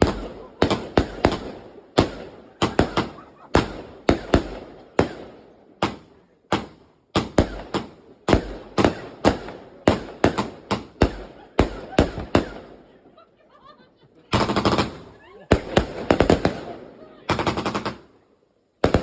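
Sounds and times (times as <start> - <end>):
firework bangs echoing: 0.0 - 12.8, 14.3 - 18.1.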